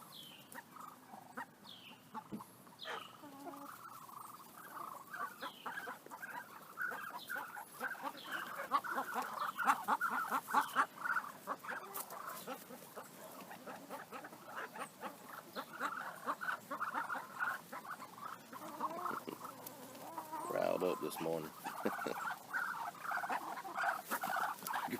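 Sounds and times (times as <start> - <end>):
poultry clucking and chirping: 0.0 - 24.9.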